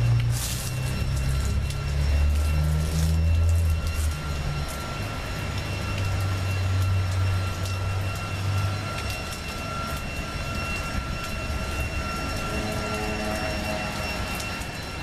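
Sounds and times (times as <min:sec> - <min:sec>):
engine running low hum: 0:00.0 - 0:15.0
high-pitched whine: 0:00.0 - 0:15.0.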